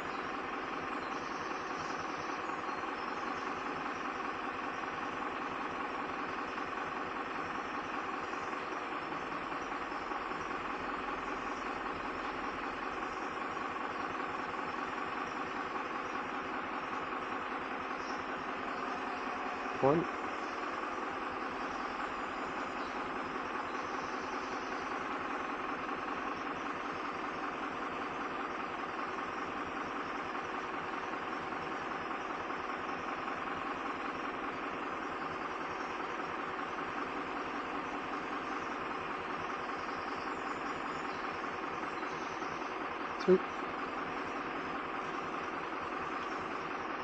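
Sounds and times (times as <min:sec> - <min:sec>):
steady machine drone: 0:00.0 - 0:47.0.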